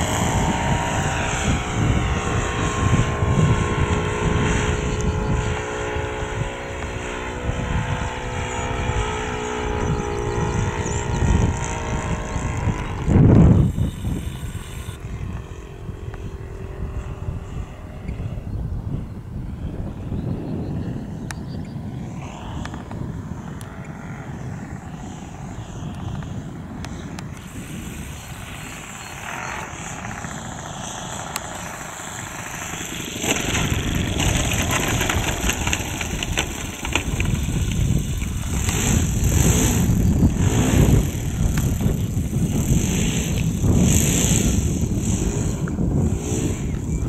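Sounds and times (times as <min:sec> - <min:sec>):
model aircraft engine and propeller: 0:00.0 - 0:47.0.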